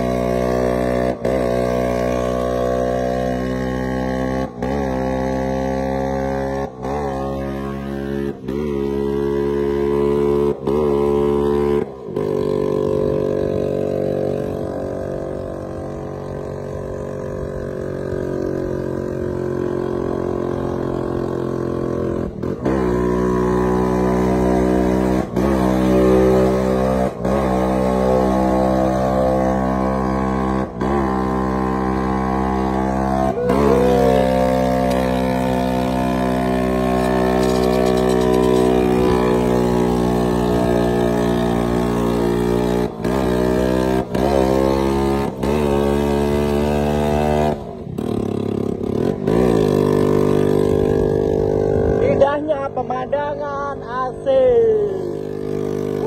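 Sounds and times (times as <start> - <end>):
two-stroke scooter engine running: 0.0 - 56.0.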